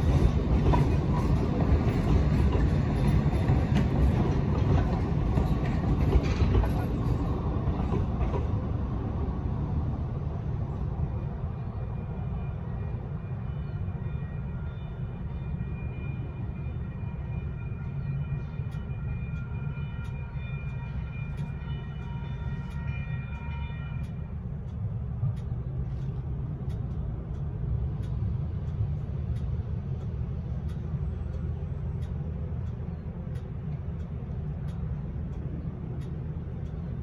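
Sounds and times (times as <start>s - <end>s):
train passing low rumble: 0.0s - 37.0s.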